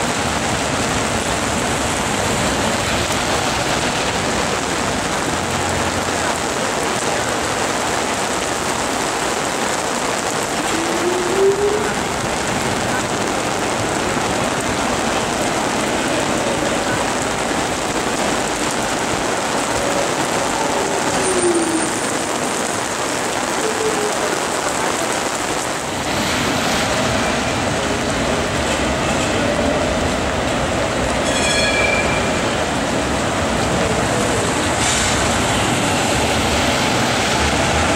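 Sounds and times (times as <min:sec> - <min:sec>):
heavy rain on a street: 0:00.0 - 0:37.9
tram rolling on rails: 0:00.0 - 0:37.9.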